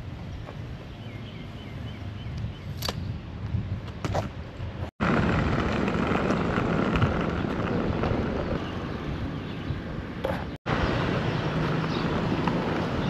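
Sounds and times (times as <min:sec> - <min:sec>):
road traffic: 0:00.0 - 0:13.0
wind on microphone: 0:01.9 - 0:13.0.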